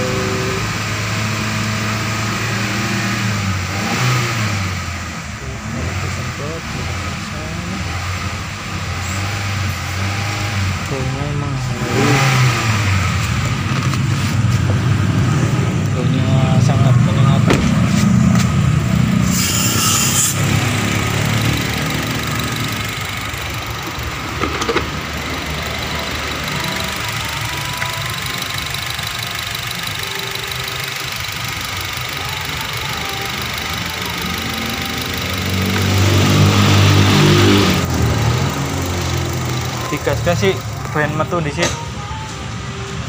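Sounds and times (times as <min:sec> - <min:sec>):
car engine revving: 0:00.0 - 0:42.2
car engine idling: 0:00.0 - 0:43.0.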